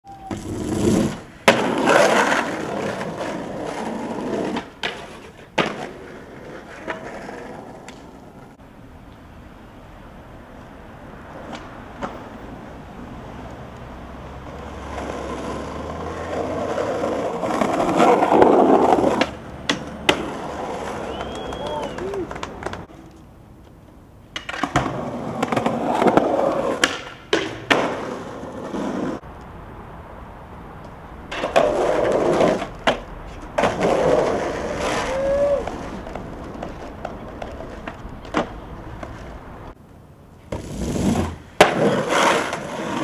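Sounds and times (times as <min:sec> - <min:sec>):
skateboard wheels rolling on pavement: 0:00.0 - 0:43.0
skateboard clacking on ground: 0:00.1 - 0:08.6, 0:11.3 - 0:12.3, 0:14.4 - 0:29.2, 0:30.8 - 0:39.8, 0:40.4 - 0:43.0.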